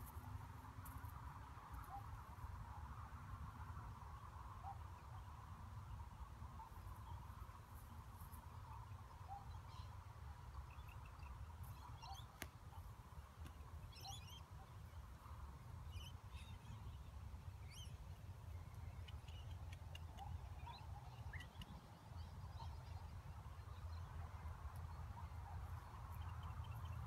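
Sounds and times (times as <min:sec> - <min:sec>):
faint birds chirping: 0:04.6 - 0:27.0.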